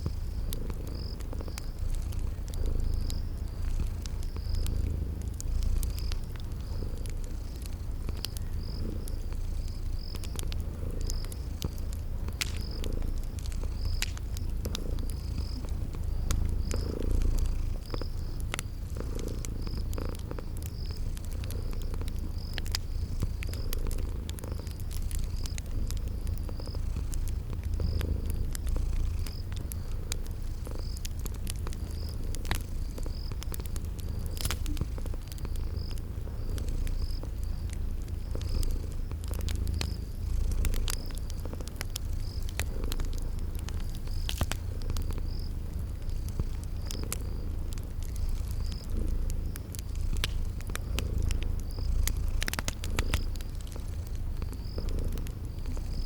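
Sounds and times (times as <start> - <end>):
cat purring: 0.0 - 56.0
cricket chirping: 0.0 - 56.0
wood fire crackling: 0.0 - 56.0.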